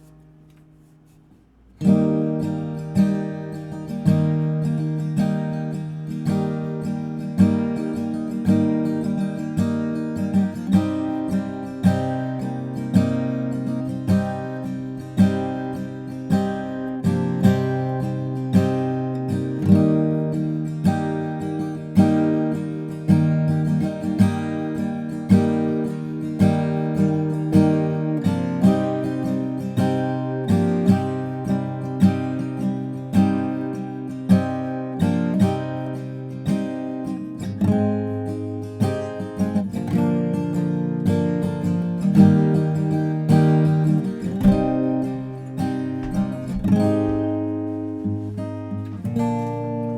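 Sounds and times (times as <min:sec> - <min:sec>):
acoustic guitar strumming: 0:00.0 - 0:49.9.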